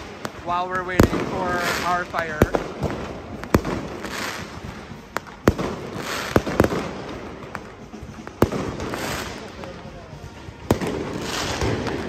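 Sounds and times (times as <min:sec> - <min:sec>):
fireworks bangs: 0:00.0 - 0:12.0
fireworks hissing and crackle: 0:00.0 - 0:12.0.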